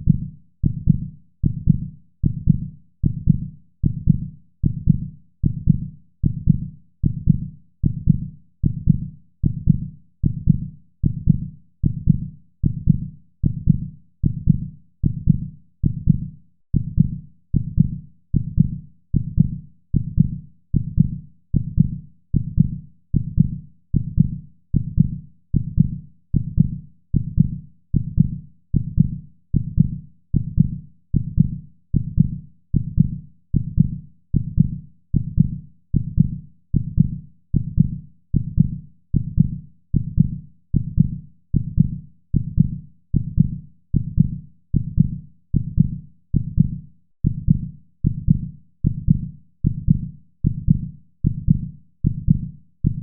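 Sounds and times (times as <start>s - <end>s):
human heartbeat: 0.0s - 53.0s.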